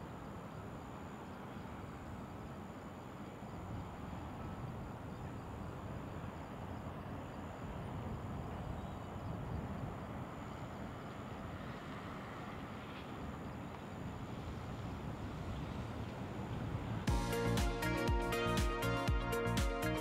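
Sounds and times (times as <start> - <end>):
faint high-pitched whine: 0.0 - 17.1
low outdoor rumble: 0.0 - 20.0.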